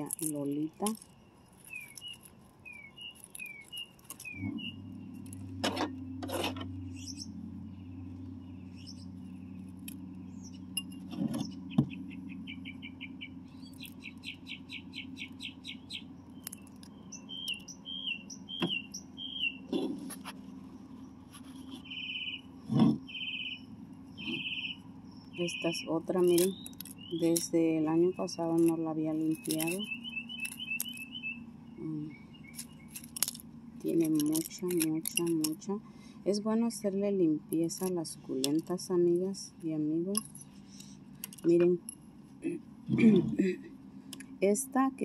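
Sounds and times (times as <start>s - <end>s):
low steady hum: 0.0s - 45.0s
small birds chirping: 0.0s - 45.0s.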